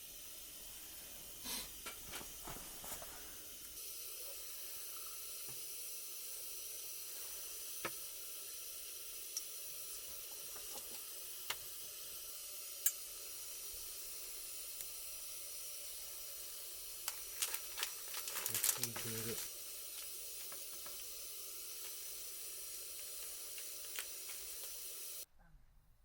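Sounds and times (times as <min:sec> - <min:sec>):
steady hiss: 0:00.0 - 0:25.3.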